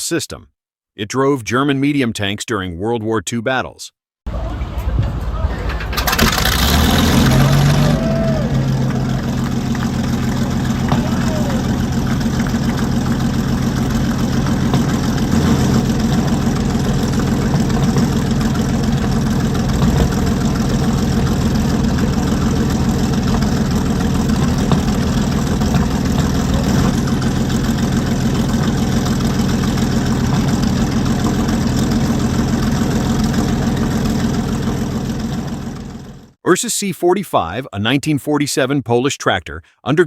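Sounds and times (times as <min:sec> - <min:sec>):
tank engine running: 0:04.3 - 0:36.4.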